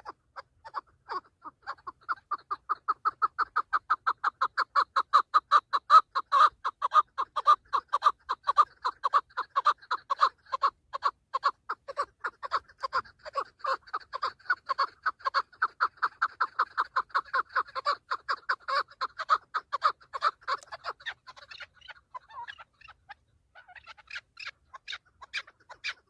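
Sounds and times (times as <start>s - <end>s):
partridge chuck calls: 0.0s - 26.0s.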